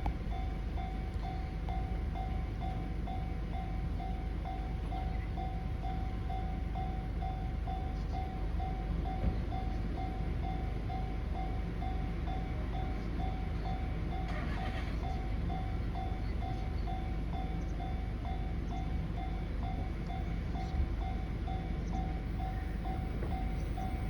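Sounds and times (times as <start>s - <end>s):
level-crossing warning bell: 0.0s - 24.0s.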